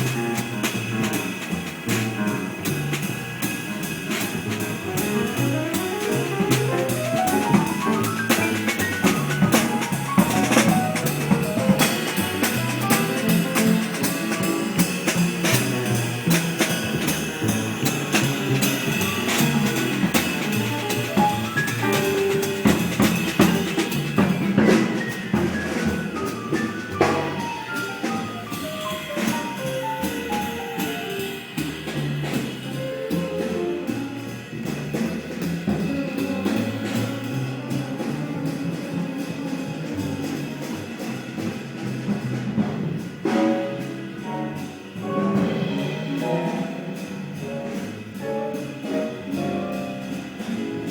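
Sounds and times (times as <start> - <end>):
acoustic piano: 0.0 - 50.9
double bass: 0.0 - 50.9
drums and cymbals: 0.0 - 50.9.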